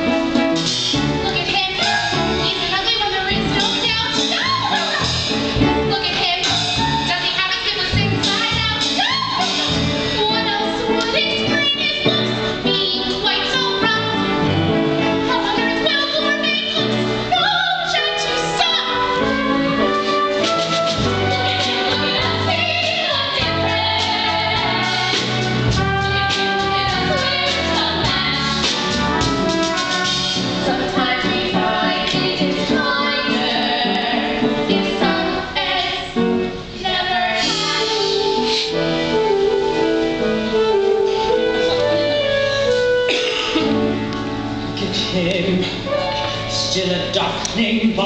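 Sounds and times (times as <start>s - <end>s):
instrumental accompaniment: 0.0s - 48.0s.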